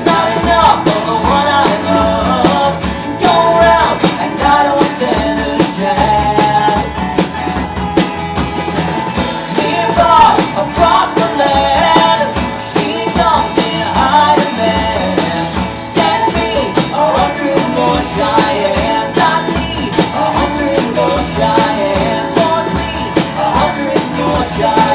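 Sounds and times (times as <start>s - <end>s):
person singing: 0.0s - 7.3s, 9.4s - 24.9s
bass guitar: 0.0s - 24.9s
drums: 0.0s - 24.9s
guitars: 0.0s - 24.9s.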